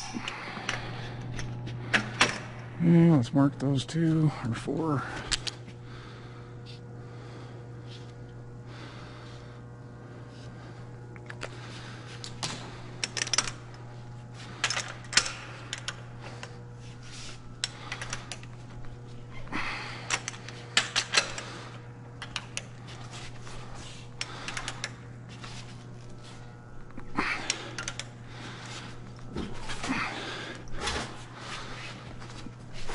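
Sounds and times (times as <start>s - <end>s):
low shop hum: 0.0s - 32.9s.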